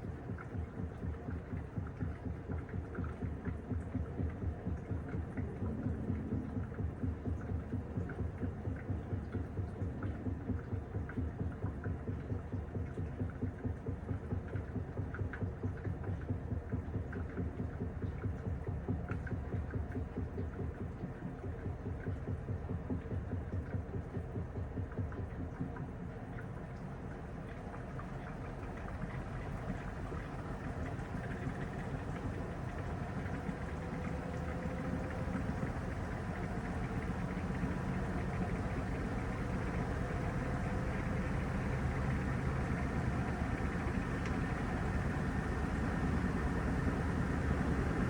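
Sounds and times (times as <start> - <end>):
washing machine running: 0.0 - 48.0
water and laundry sloshing: 0.0 - 48.0.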